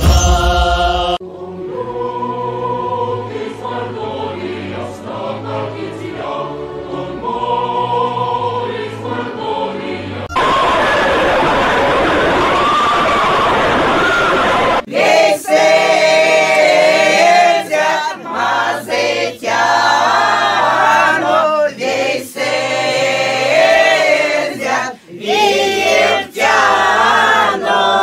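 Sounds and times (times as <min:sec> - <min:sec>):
choir singing unaccompanied: 0:00.1 - 0:10.5, 0:14.8 - 0:28.0.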